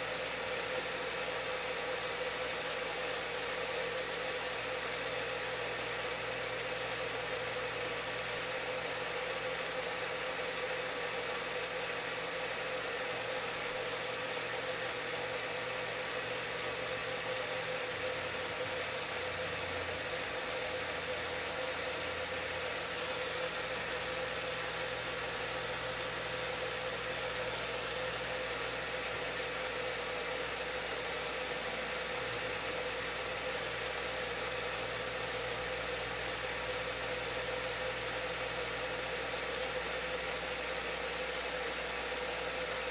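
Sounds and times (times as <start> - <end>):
mechanical running noise with hiss: 0.0 - 42.9.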